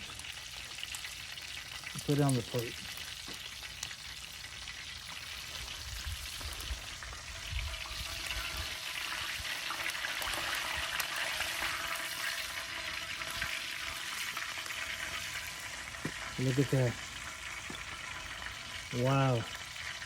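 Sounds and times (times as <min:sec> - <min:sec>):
fish sizzling in skillet: 0:00.0 - 0:20.0.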